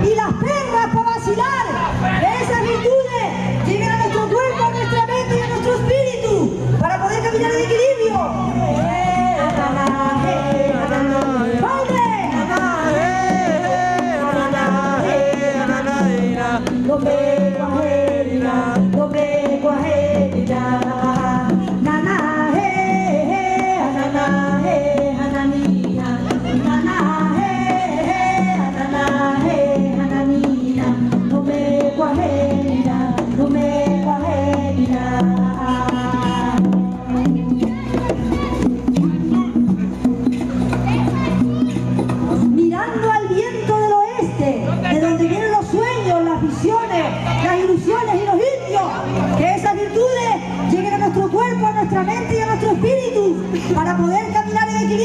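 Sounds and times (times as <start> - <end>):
live folk music: 0.0 - 55.0.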